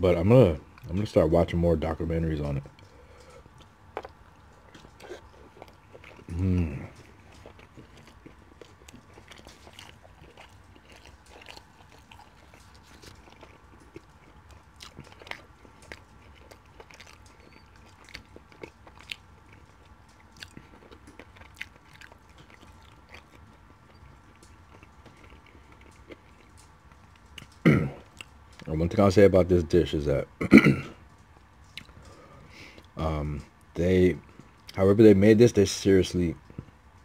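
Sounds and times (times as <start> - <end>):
faint steady hum: 0.0 - 37.0
chewing mouth clicks and smacks: 2.6 - 28.7, 31.0 - 34.8, 36.4 - 37.0.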